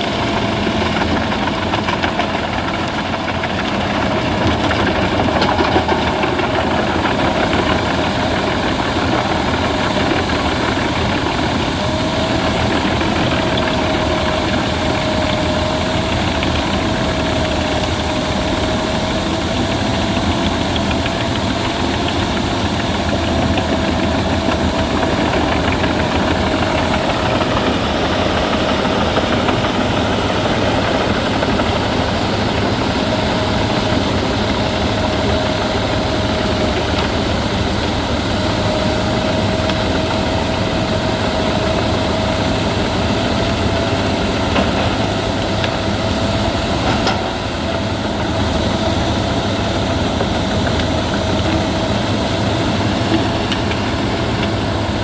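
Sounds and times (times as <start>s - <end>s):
wood chipper humming and whining: 0.0s - 55.0s.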